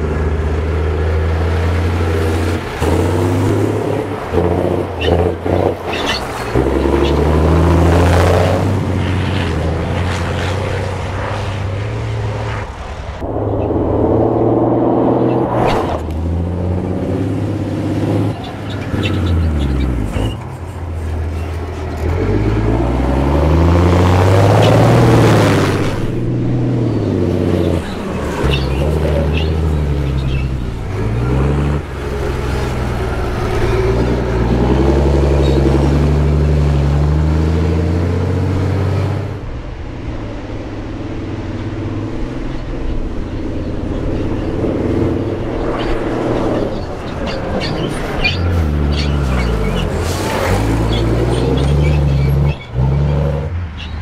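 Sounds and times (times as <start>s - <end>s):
truck diesel engine revving: 0.0s - 12.6s, 13.2s - 54.0s
truck passing by: 0.0s - 54.0s.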